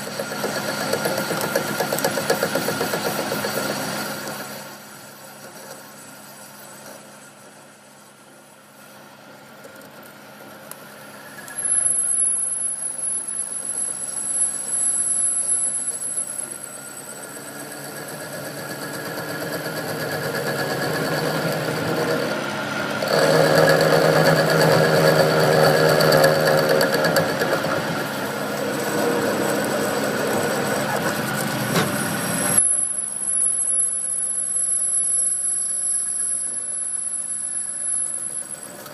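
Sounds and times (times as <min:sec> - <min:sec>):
high steady machine whine: 0:00.0 - 0:38.9
workshop machinery running: 0:00.0 - 0:38.9.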